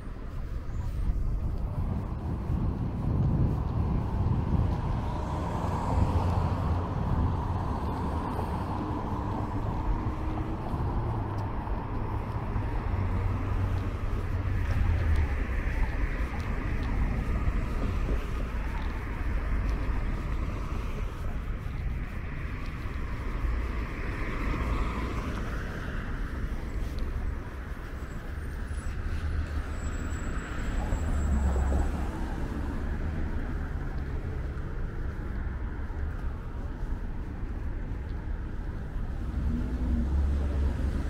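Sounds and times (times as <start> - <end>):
cars passing: 0.0 - 41.0.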